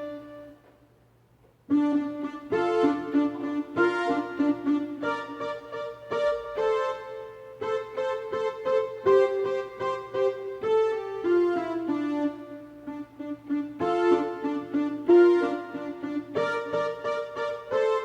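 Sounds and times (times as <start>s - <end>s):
electronic keyboard melody: 0.0s - 0.7s, 1.7s - 18.0s.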